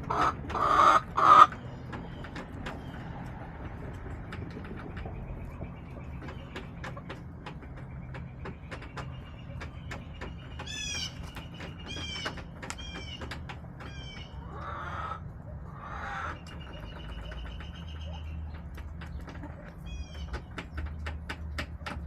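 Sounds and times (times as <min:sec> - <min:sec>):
hens calling: 0:00.0 - 0:21.3
hens pecking taps: 0:00.0 - 0:22.0.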